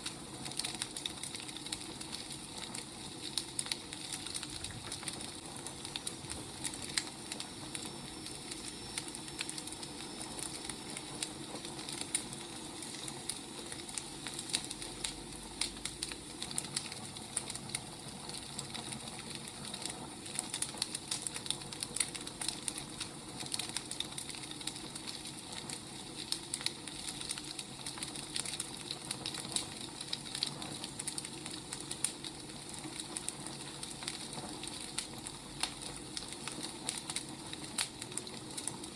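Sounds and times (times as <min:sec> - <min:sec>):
fire hiss: 0:00.0 - 0:38.9
firewood crackling and popping: 0:00.0 - 0:38.9.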